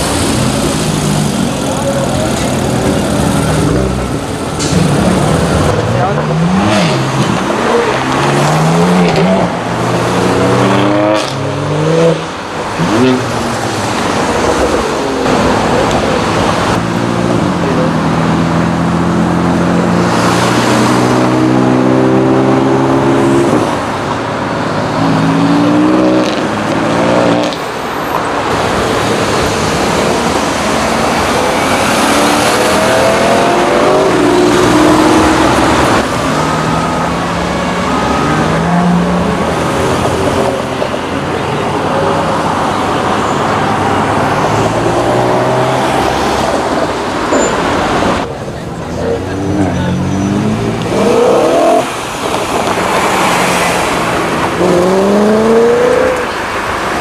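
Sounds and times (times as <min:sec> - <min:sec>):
cars accelerating: 0:00.0 - 0:57.0.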